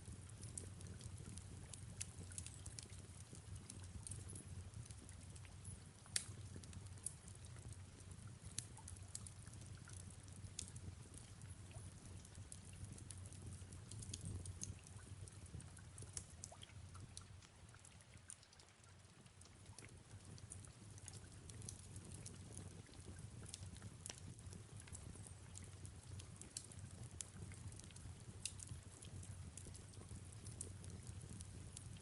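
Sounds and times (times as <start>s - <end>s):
fireplace crackling: 0.0s - 32.0s
soft rain falling: 0.0s - 32.0s.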